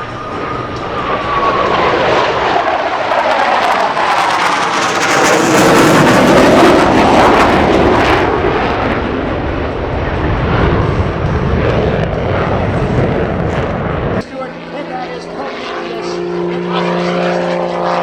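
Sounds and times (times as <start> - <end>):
propeller plane engine passing: 0.0 - 18.0.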